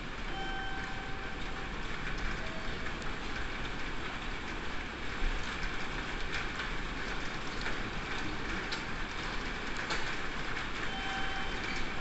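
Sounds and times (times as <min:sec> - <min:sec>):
raindrops ticking on window glass: 0:00.2 - 0:12.0.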